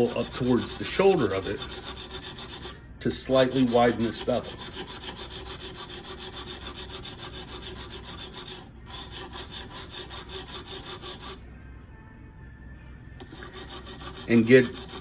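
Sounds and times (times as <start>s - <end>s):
sharpening stone scraping knife: 0.0s - 11.4s, 13.2s - 15.0s.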